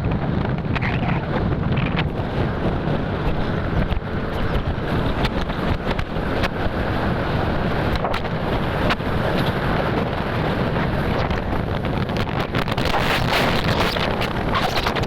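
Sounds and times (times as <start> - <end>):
motorcycle engine and road noise: 0.0 - 15.0
wind buffeting microphone: 0.0 - 15.0.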